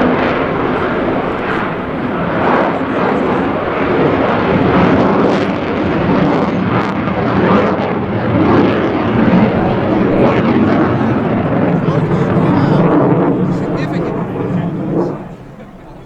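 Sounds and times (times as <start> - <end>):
fighter jet roar: 0.0 - 16.0.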